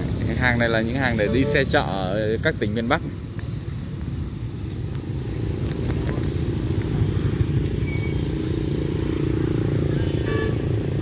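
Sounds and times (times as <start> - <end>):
motorbikes passing: 0.0 - 11.0.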